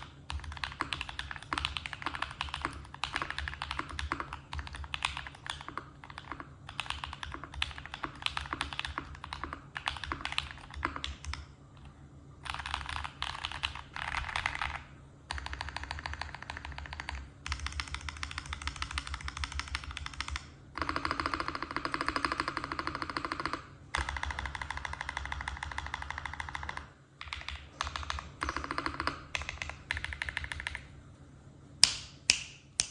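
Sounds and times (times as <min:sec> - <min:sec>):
typing on mechanical keyboard: 0:00.0 - 0:11.4, 0:12.4 - 0:30.8.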